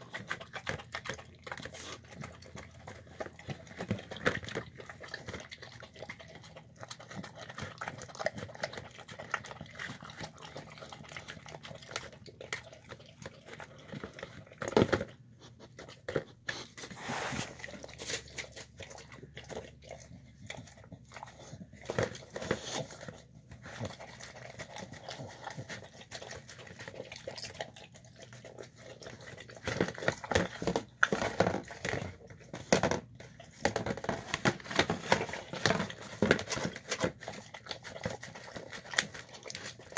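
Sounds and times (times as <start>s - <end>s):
dog licking and chewing: 0.0s - 39.9s.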